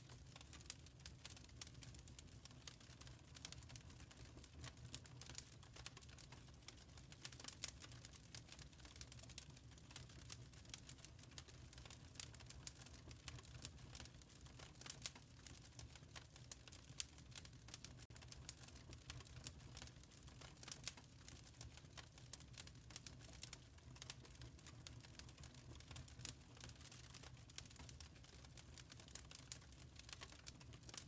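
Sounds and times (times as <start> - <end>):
fire crackling: 0.0 - 31.0.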